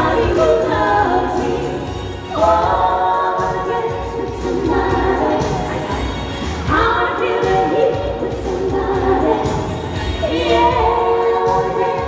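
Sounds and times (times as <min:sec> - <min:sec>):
band accompaniment with bass: 0:00.0 - 0:12.0
women singing: 0:00.0 - 0:12.0.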